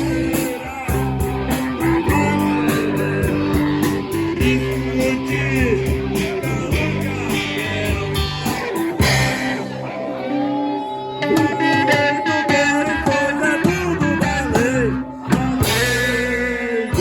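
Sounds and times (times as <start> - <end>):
rock guitar over a beat: 0.0 - 17.0.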